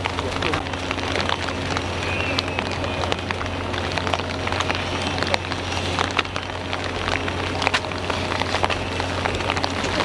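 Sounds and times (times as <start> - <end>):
heavy rain falling: 0.0 - 10.0
raindrops hitting close: 0.0 - 10.0.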